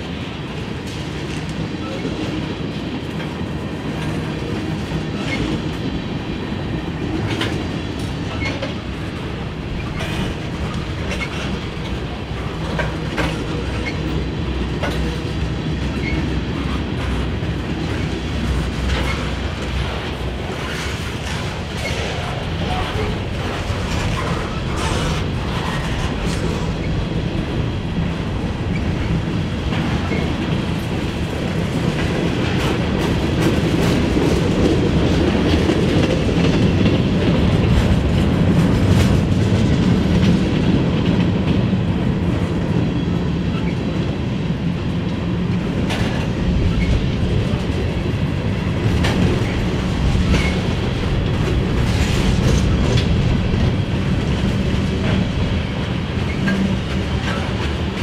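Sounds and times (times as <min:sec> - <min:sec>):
freight train wheels rumbling on rails: 0:00.0 - 0:58.0
wheels clicking over rail joints: 0:06.9 - 0:41.8, 0:45.5 - 0:58.0.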